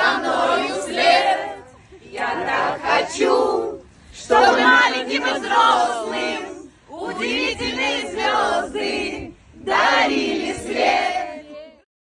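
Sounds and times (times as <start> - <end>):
group of people singing: 0.0 - 11.8.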